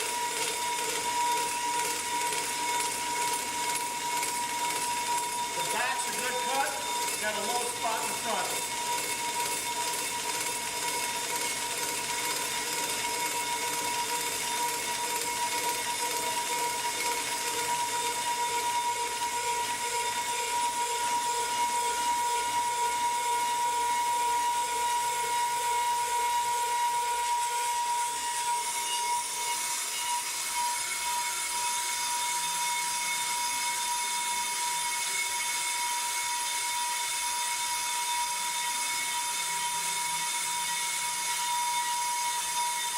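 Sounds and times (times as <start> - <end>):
brake lathe whining: 0.0 - 42.9.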